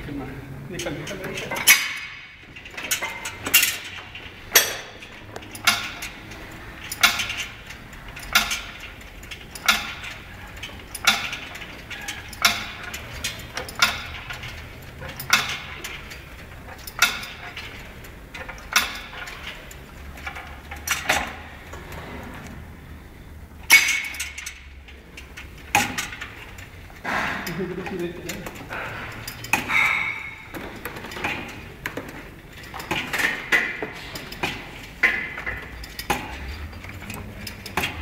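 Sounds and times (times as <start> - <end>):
weight-stack plates clanking: 0.7 - 38.0.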